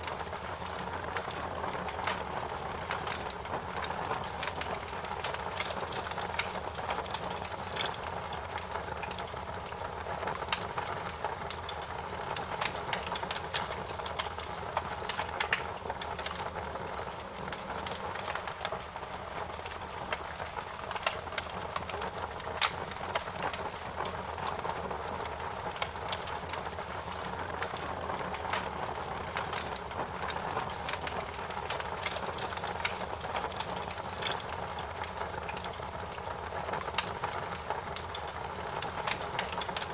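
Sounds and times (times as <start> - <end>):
fire crackling with pops: 0.0 - 39.9.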